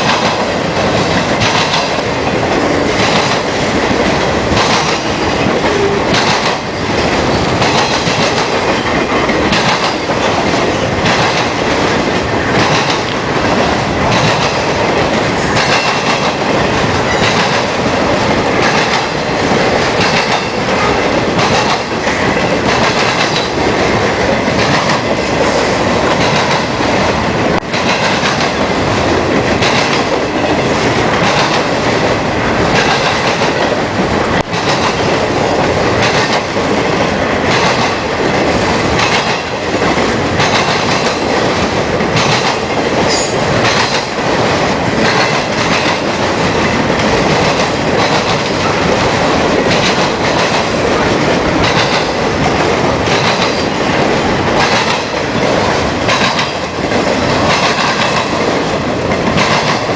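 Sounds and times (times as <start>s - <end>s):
freight train rumbling past: 0.0s - 59.9s
wheels clacking over rails: 0.0s - 59.9s.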